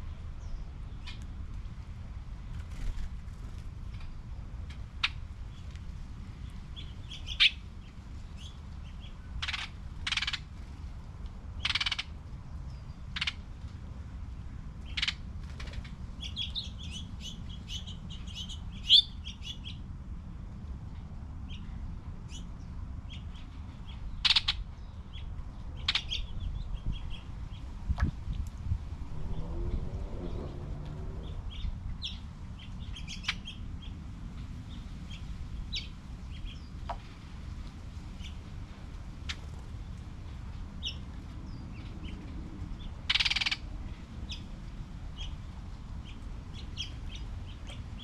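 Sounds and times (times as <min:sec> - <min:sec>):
songbirds chirping and rasping: 0:02.5 - 0:13.7, 0:14.3 - 0:19.9, 0:20.9 - 0:48.0.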